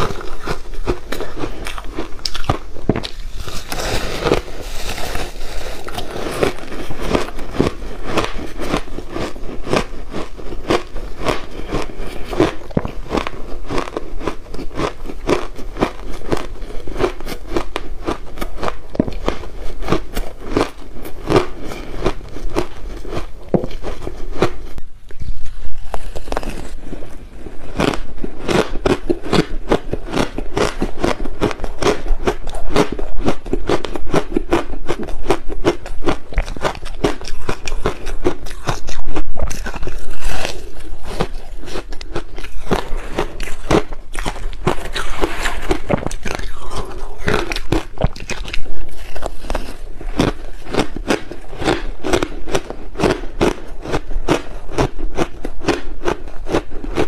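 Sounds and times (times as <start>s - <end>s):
crunching frozen ice: 0.0s - 57.0s.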